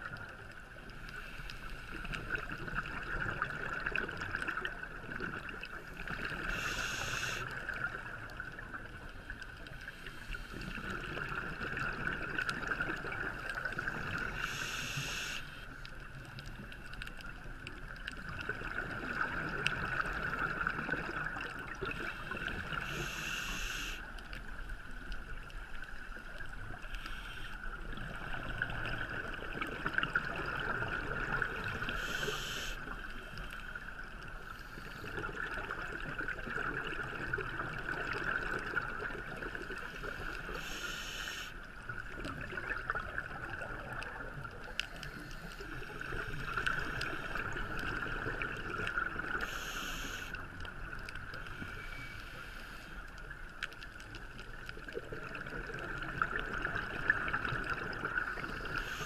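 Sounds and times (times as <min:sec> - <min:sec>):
underwater hiss with crackling: 0:00.0 - 0:59.0.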